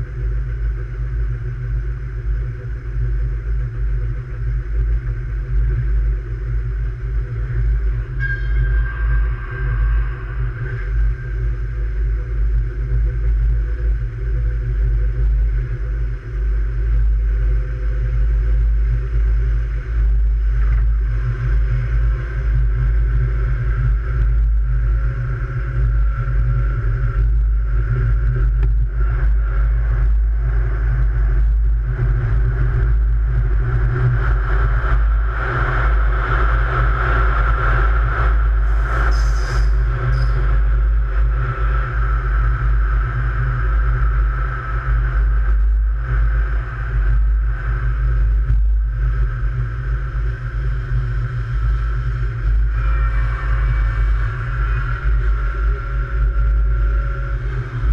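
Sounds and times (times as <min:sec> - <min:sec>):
faint high whine: 0:00.0 - 0:57.9
train rumbling on track: 0:00.0 - 0:57.9.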